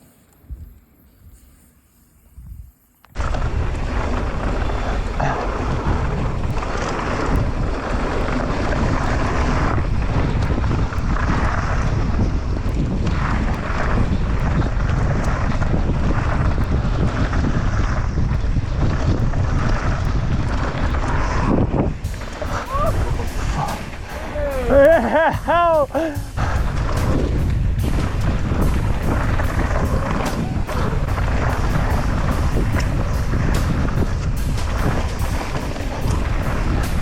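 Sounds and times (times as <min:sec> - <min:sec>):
wind buffeting microphone: 0:02.4 - 0:37.0
bike rumbling on rough ground: 0:03.1 - 0:37.0.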